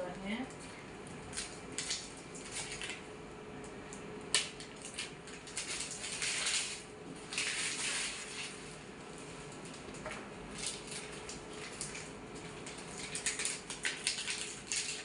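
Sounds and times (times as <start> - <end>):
plastic packaging crinkling: 1.3 - 3.1, 4.4 - 15.0.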